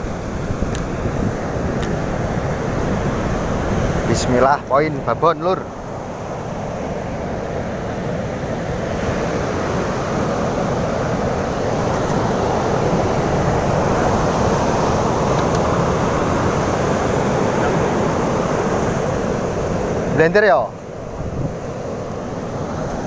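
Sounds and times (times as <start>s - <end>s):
wind on microphone: 0.0s - 5.2s, 5.8s - 20.2s, 20.8s - 23.0s
surf washing onto beach: 0.0s - 23.0s.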